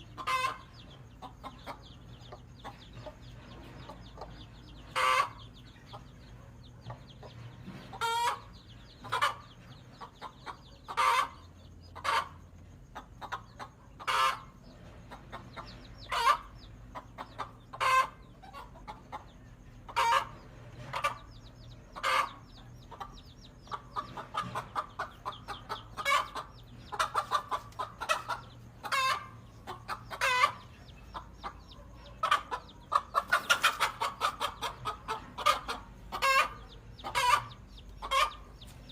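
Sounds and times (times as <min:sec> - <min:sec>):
hen clucking: 0:00.0 - 0:38.9.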